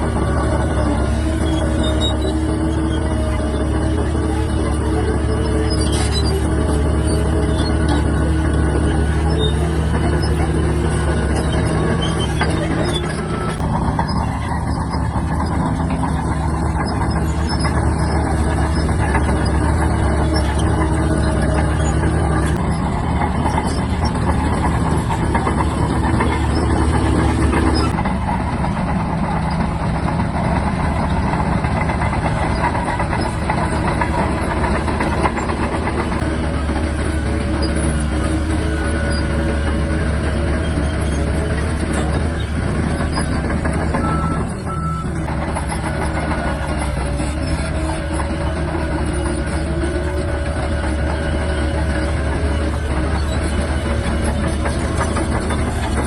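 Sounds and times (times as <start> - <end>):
bulldozer diesel engine: 0.0 - 56.0.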